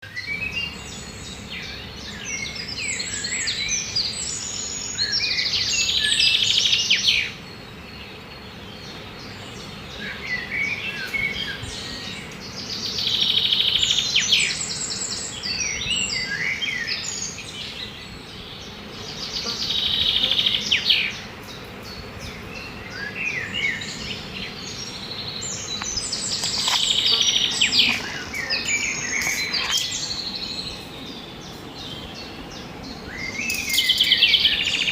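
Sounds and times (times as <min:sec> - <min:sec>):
birds chirping and trilling: 0:00.0 - 0:34.9.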